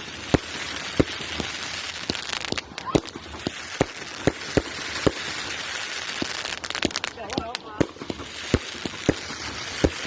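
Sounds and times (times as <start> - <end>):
firework bangs: 0.0 - 10.0
firework crackling hiss: 0.0 - 10.0.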